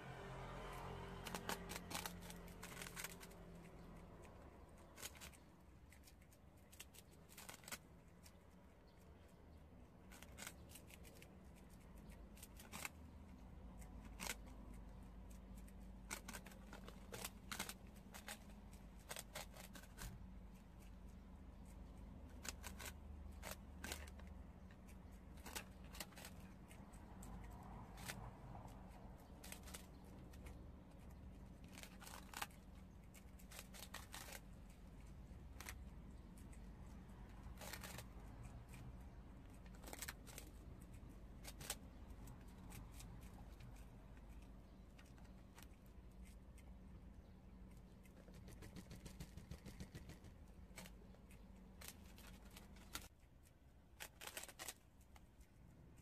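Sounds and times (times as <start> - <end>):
animals crunching rice cakes: 0.0 - 56.0
faint low hum: 0.0 - 56.0.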